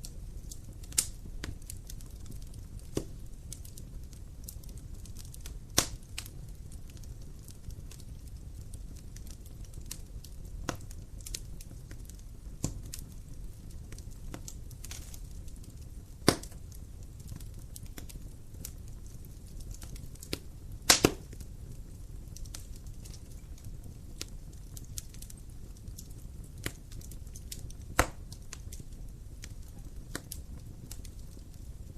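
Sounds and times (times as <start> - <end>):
fire pops: 0.0 - 31.9
wood fire crackling: 0.0 - 31.9.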